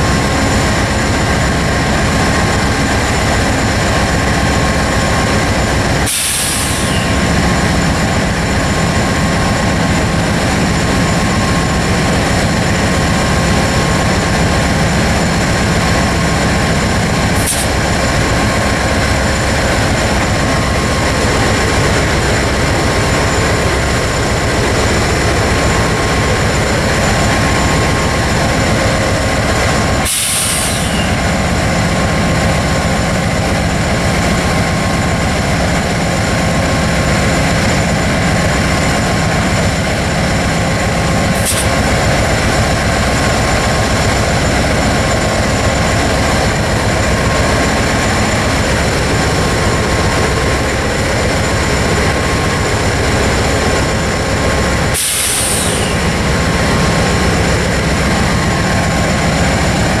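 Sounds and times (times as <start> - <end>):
train cars rolling: 0.0 - 60.0.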